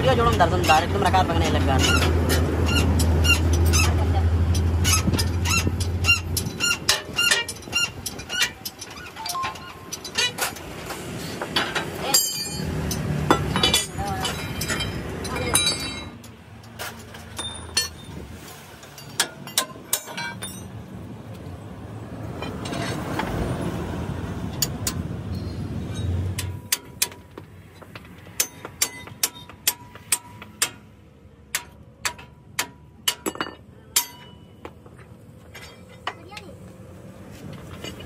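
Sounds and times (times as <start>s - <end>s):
passing vehicle: 0.0s - 31.9s
metal tools tapping on metal: 0.1s - 18.2s, 18.8s - 20.8s, 24.5s - 30.9s, 31.5s - 36.5s.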